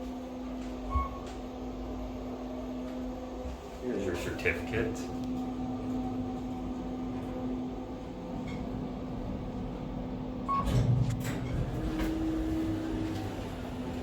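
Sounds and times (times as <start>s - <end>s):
elevator hum: 0.0s - 14.0s.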